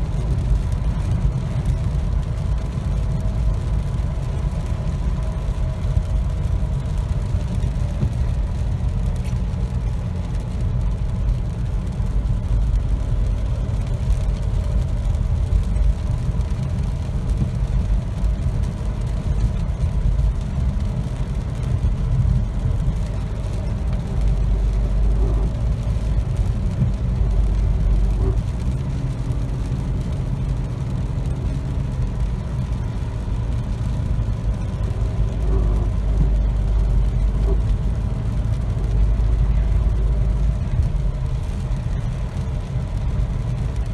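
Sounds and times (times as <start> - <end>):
engine and road noise drone: 0.0 - 43.9.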